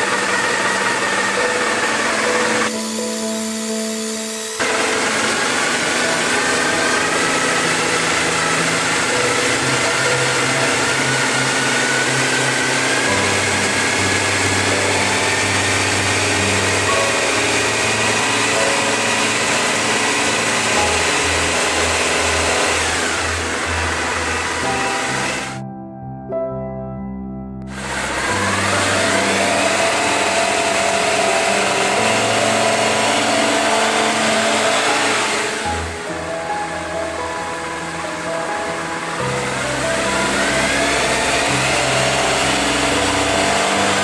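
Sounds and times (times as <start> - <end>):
motorcycle engine revs climbing: 0.0 - 25.6, 27.7 - 44.0
background music: 0.0 - 44.0.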